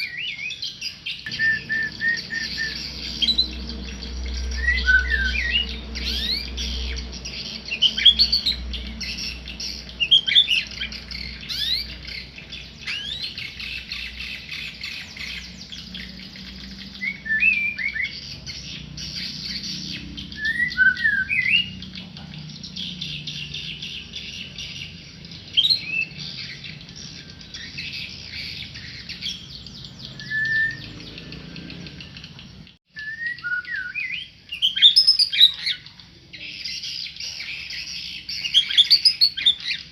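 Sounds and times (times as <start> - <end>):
songbird whistles and chirps: 0.0 - 22.0, 22.6 - 39.9.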